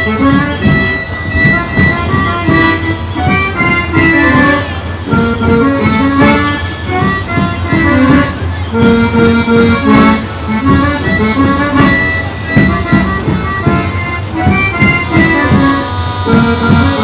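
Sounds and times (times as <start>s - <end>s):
reedy wind instrument melody: 0.0s - 17.0s
steady drum beat: 0.0s - 17.0s.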